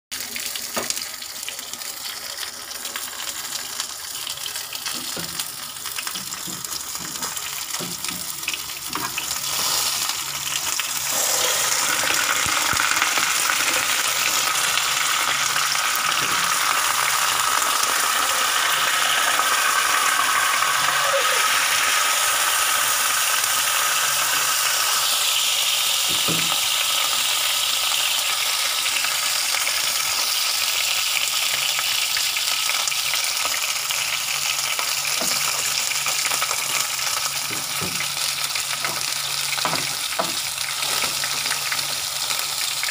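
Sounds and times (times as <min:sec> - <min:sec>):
fish sizzling in hot oil: 0:00.2 - 0:42.9.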